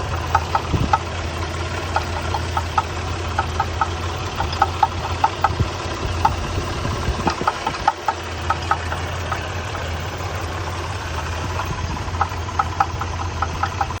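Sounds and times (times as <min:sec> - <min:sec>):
car engine idling: 0:00.0 - 0:14.0
sharp engine knocking: 0:00.0 - 0:14.0.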